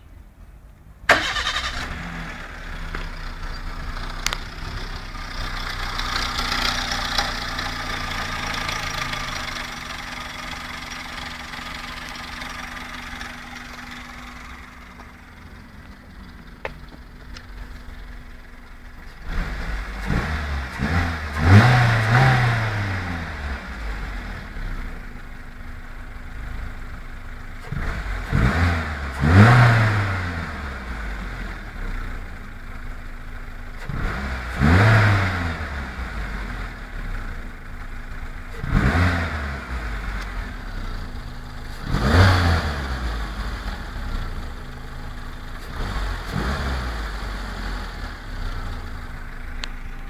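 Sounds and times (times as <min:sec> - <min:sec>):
car engine starting and idling: 0:00.0 - 0:50.0
car engine revving: 0:01.1 - 0:25.2, 0:26.2 - 0:32.2, 0:33.7 - 0:37.5, 0:38.4 - 0:50.0.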